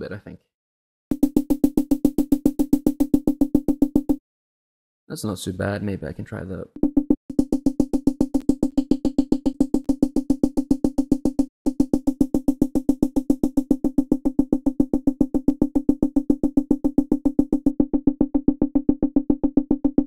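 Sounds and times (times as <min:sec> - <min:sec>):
synthesizer pluck notes pulsing: 0:01.1 - 0:04.2, 0:06.8 - 0:20.0.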